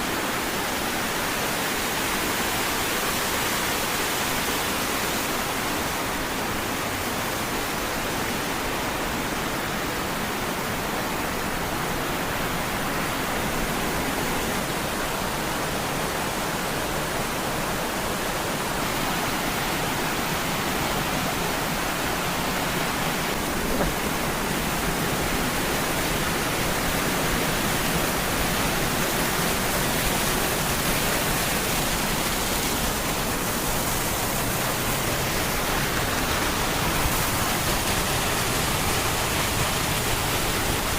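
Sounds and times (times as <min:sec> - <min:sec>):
waterfall rushing over rocks: 0:00.0 - 0:40.9.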